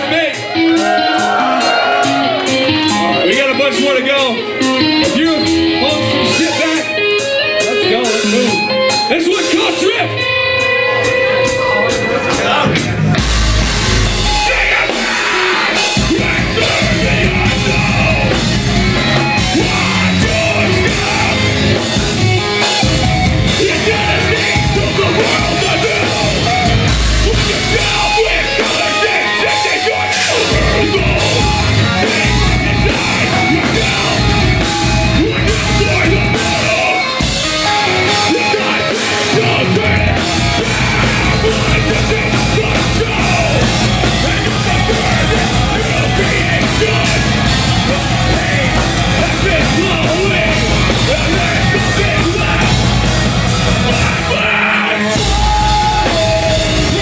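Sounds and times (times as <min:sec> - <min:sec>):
metal band playing loudly: 0:00.0 - 0:57.0
vocalist on microphone: 0:00.0 - 0:57.0.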